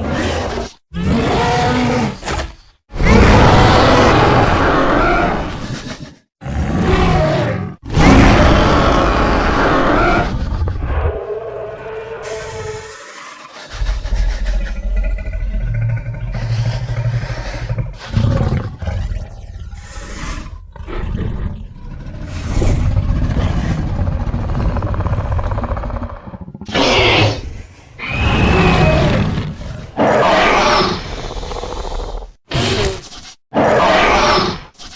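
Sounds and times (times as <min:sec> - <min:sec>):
creature growls and roars: 0:00.0 - 0:34.7.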